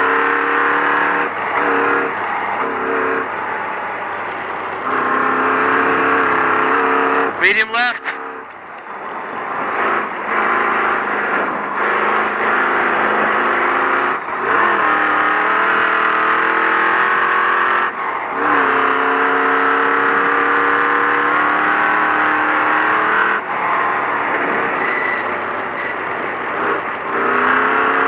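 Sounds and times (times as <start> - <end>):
road and tyre noise: 0.0 - 28.0
truck engine revving high: 0.0 - 28.0.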